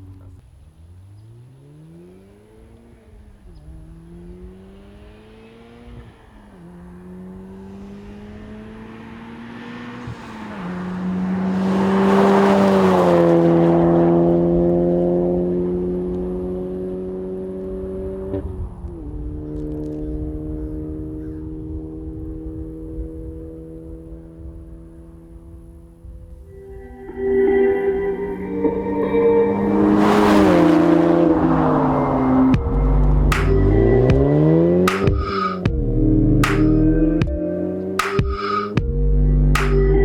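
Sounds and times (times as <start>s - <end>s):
car passing by: 0.0s - 35.8s
car engine accelerating through gears: 0.0s - 40.0s.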